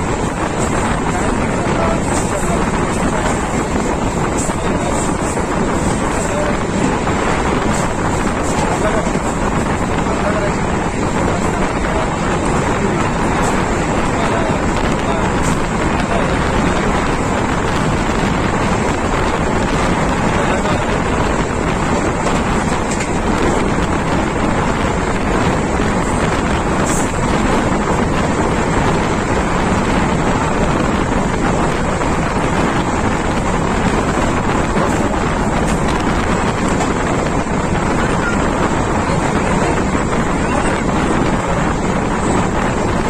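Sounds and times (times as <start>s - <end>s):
train running noise: 0.0s - 43.0s
wind buffeting microphone: 0.0s - 43.0s.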